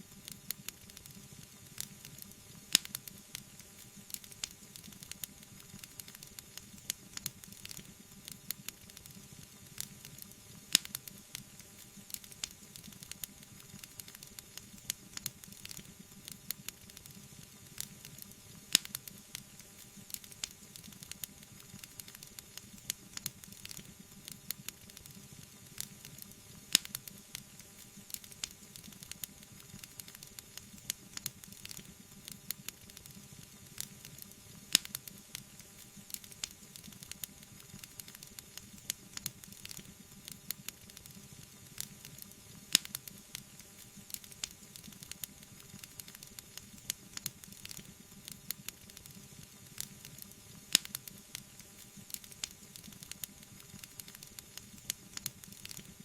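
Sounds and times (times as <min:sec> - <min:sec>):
soft hissing bubbling: 0:00.0 - 0:56.0
wood fire crackling: 0:00.0 - 0:56.0
loud fire snaps: 0:00.1 - 0:56.0.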